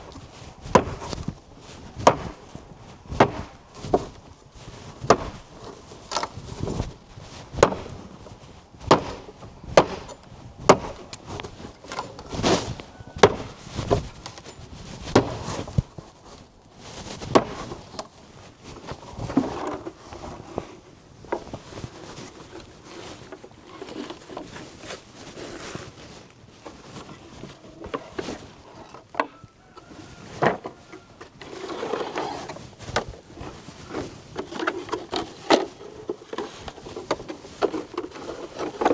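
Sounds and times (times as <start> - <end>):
soft rustling: 0.0 - 38.9.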